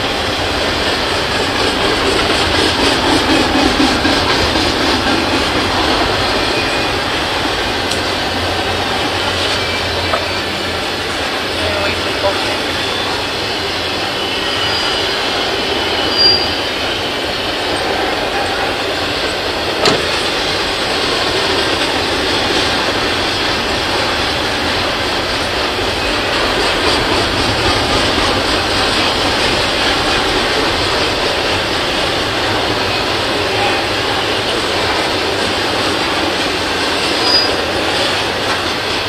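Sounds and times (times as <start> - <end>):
train wheels on rail: 0.0 - 39.0.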